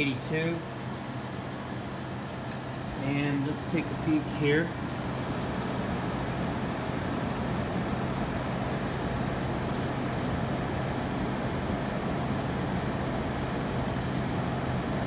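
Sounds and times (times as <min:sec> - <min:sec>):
air conditioner fan rushing: 0:00.0 - 0:15.0
low even hum: 0:00.0 - 0:15.0.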